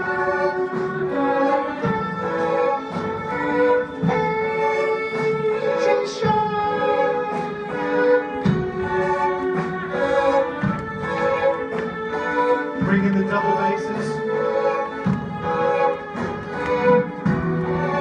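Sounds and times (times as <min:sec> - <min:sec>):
bowed strings: 0:00.0 - 0:18.0
symphony orchestra playing: 0:00.0 - 0:18.0.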